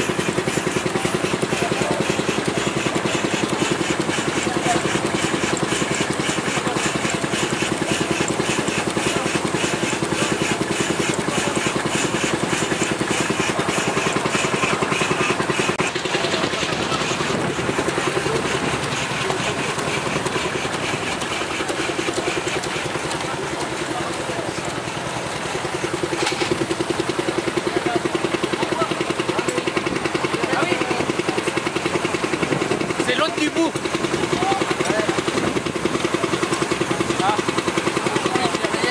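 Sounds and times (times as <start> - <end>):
steam engine running: 0.0 - 38.9.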